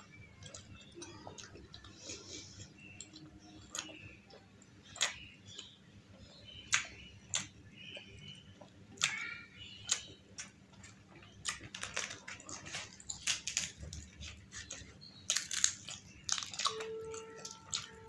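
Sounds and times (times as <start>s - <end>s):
fried food crackling: 0.0s - 18.0s
mouth chewing: 0.0s - 18.0s.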